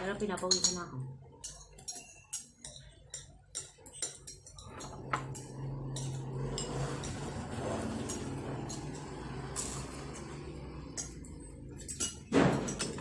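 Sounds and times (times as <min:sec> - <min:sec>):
cutlery scraping plates: 0:01.4 - 0:13.0.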